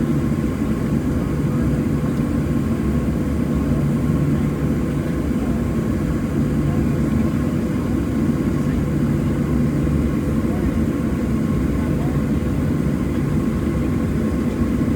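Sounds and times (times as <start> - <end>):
aircraft cabin rumble and hum: 0.0 - 14.9.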